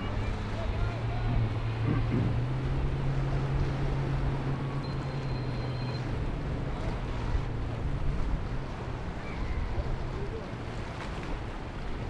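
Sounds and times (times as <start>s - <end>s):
wind rumble on microphone: 0.0s - 4.9s, 6.1s - 12.0s
distant engine drone: 0.0s - 10.0s.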